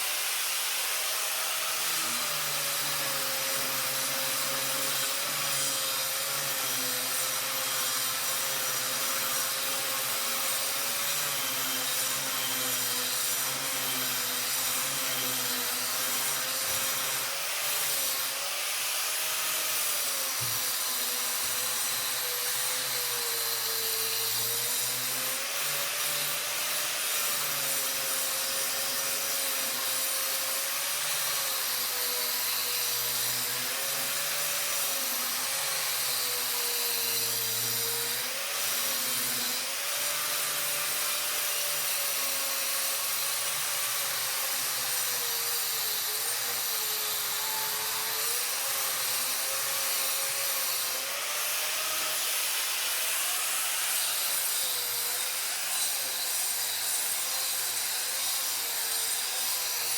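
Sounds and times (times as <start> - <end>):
power tool motor running: 0.0 - 59.9.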